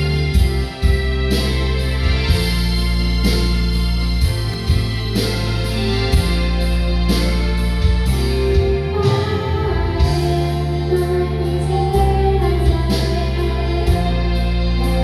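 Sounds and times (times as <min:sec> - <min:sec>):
karaoke backing track: 0:00.0 - 0:15.0.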